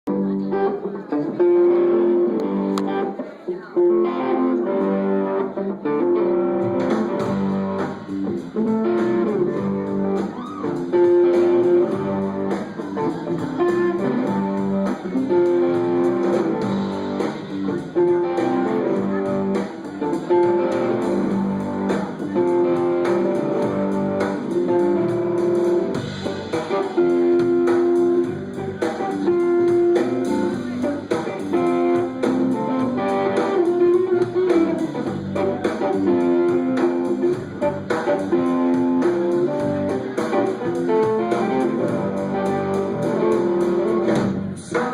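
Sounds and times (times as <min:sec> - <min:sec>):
live band playing guitar-led instrumental: 0:00.0 - 0:44.9.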